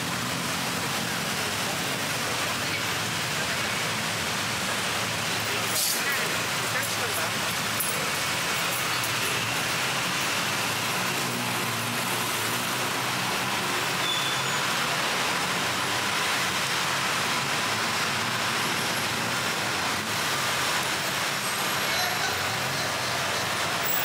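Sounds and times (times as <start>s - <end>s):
busy street traffic roar: 0.0s - 24.0s.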